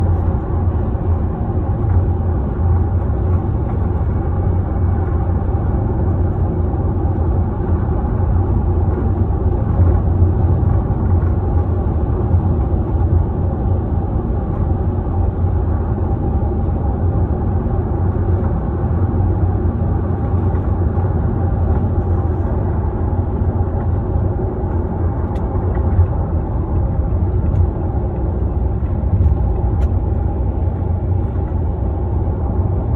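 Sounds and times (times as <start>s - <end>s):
car low rumble: 0.0s - 32.9s.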